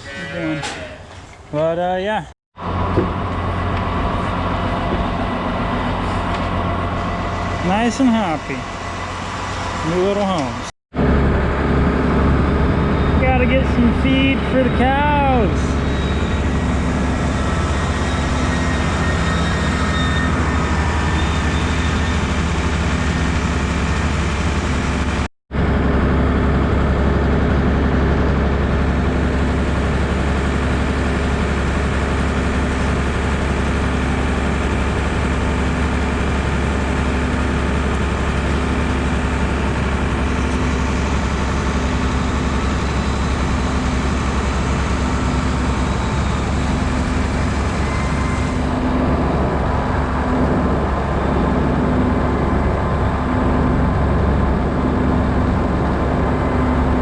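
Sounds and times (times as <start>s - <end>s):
tractor engine running: 2.6s - 57.0s.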